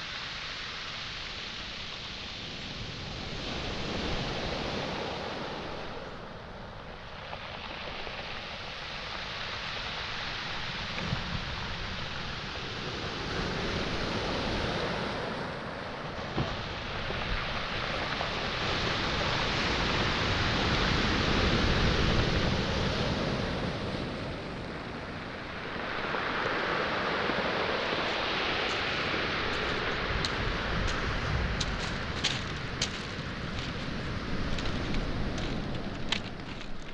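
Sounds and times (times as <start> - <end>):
waves breaking on pebble shore: 0.0 - 36.9.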